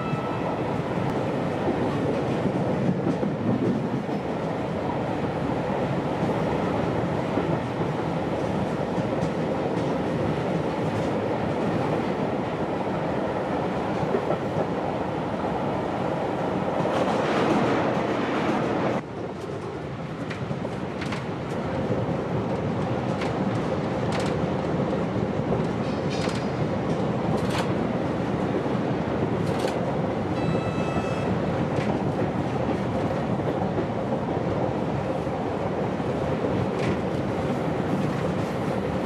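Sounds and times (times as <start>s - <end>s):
train rumbling and rattling: 0.0s - 39.0s.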